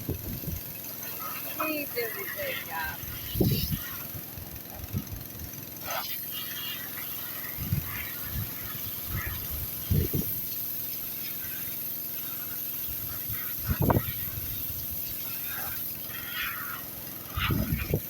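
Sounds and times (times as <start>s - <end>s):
water spray hissing: 0.0s - 4.9s, 5.8s - 18.0s
pressure washer engine running: 0.0s - 18.0s.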